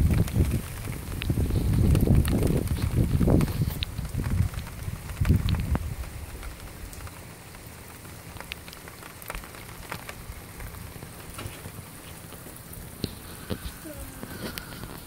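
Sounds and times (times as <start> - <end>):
low rumble on microphone: 0.0 - 15.0
rain on pavement: 0.0 - 15.0.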